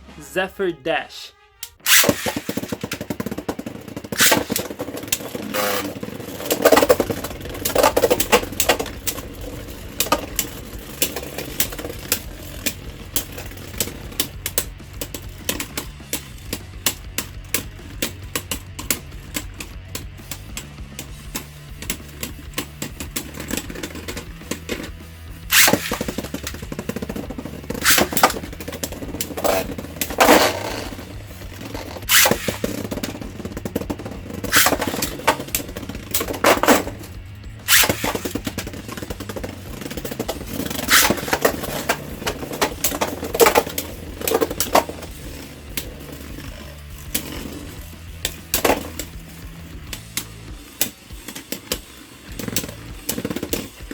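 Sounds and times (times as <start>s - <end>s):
spinning tops whirring and scraping: 1.6s - 53.9s
spinning tops clashing: 1.8s - 18.2s, 25.5s - 53.8s.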